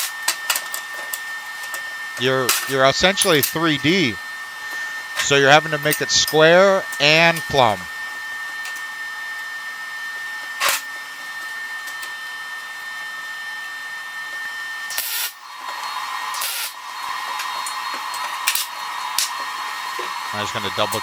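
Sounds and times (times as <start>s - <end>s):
steady whirring hum: 0.0s - 21.0s.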